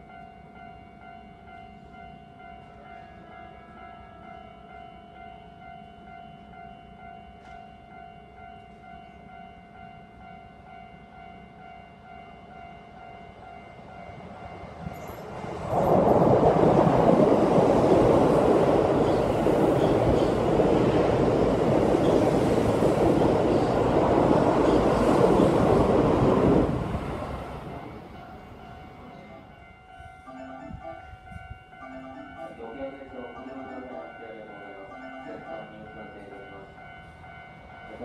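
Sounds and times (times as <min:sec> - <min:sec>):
train running past: 0:00.0 - 0:38.0.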